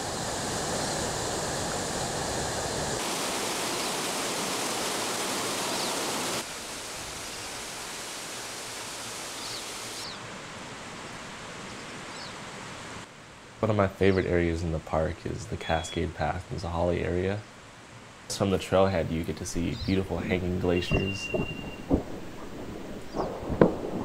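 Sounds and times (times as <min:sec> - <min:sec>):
waterfalls rushing: 0:00.0 - 0:17.2, 0:18.3 - 0:22.4.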